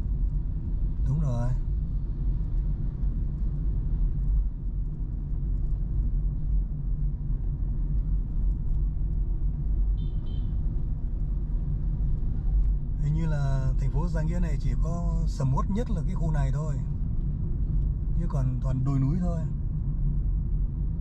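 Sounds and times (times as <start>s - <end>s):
road and wind rumble: 0.0s - 21.0s.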